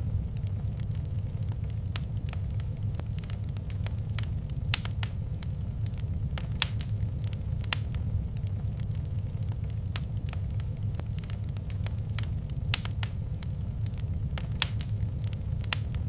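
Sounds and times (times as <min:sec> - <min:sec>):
low rumble: 0:00.0 - 0:16.0
wood fire crackling and popping: 0:00.0 - 0:16.0.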